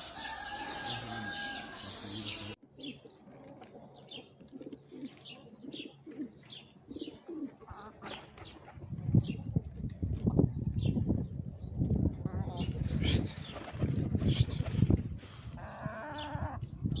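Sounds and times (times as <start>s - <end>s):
pigeons cooing: 0.0s - 9.5s, 12.3s - 17.0s.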